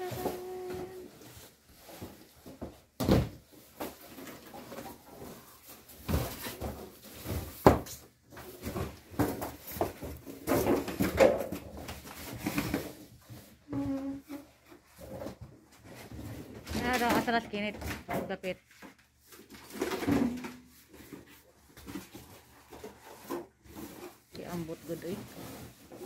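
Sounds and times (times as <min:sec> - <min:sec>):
objects being handled clattering: 0:00.0 - 0:26.0.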